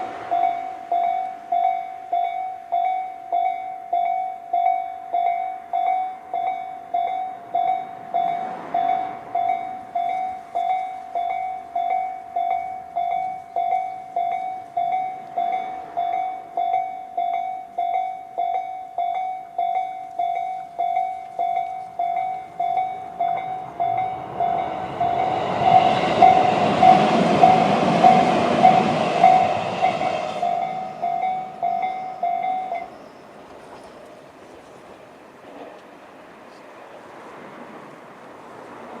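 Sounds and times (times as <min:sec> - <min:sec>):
level crossing warning bell: 0:00.0 - 0:34.4
electric train passing: 0:00.0 - 0:39.0.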